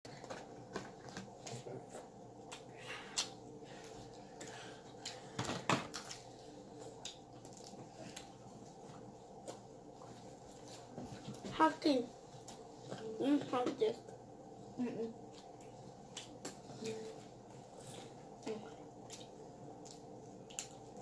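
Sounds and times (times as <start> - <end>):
low steady hum: 0.1 - 21.0.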